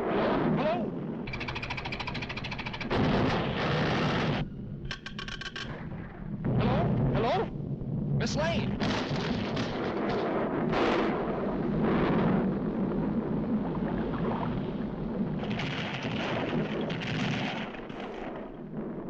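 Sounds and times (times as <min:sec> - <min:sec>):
deep volcano rumble: 0:00.0 - 0:19.0.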